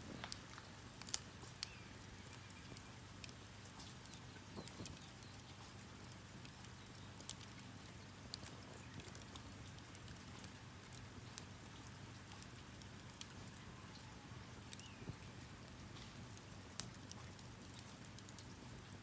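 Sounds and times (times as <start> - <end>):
campfire crackling and popping: 0.0 - 19.0
soft steady hiss: 0.0 - 19.0.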